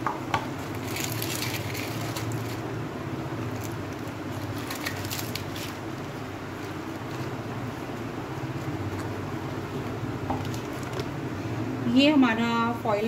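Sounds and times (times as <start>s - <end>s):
crackling handling noise: 0.2s - 11.3s.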